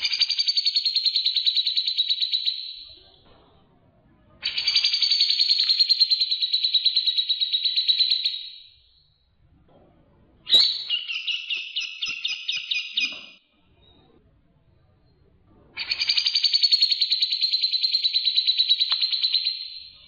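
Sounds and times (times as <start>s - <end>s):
bird chirps: 0.0s - 3.2s, 4.4s - 9.2s, 10.5s - 14.1s, 14.8s - 20.0s.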